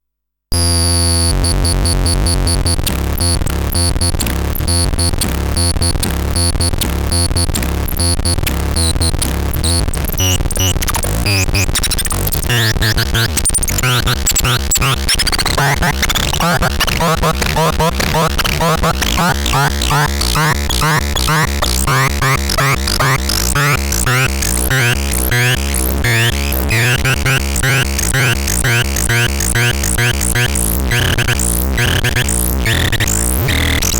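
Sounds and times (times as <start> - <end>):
pulsing low bass: 0.6 - 15.1, 15.7 - 33.9
glitchy synthesizer music: 0.6 - 33.9.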